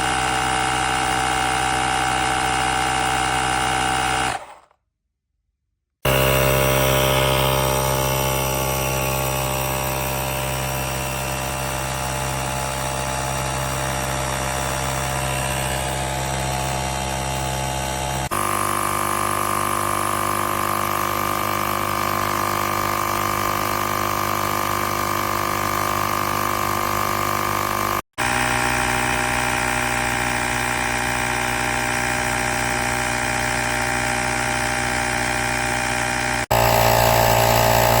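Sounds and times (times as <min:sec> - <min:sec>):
air compressor motor hum: 0:00.0 - 0:04.7, 0:06.1 - 0:38.0.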